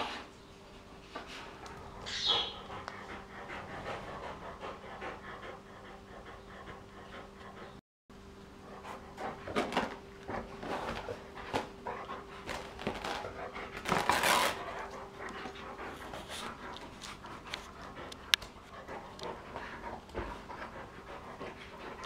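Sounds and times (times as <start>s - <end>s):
dog panting: 0.0s - 7.8s, 8.6s - 22.0s.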